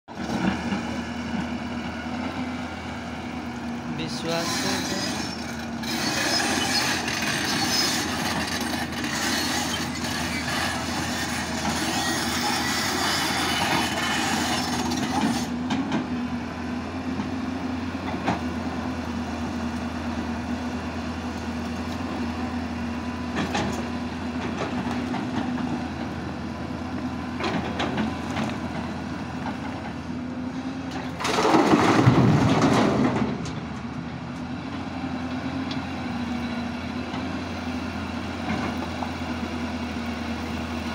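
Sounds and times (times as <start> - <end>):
excavator diesel engine running: 0.1 - 40.9.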